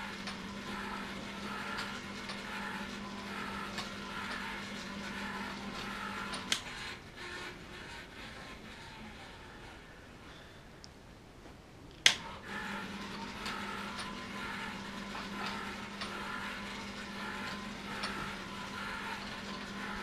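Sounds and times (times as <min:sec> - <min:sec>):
light motor humming and whirring: 0:00.0 - 0:10.8, 0:12.1 - 0:20.0.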